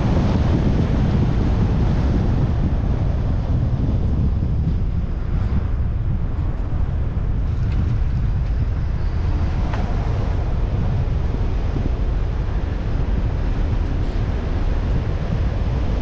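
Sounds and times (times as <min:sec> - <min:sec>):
car road noise: 0:00.0 - 0:16.0
wind buffeting microphone: 0:00.0 - 0:16.0.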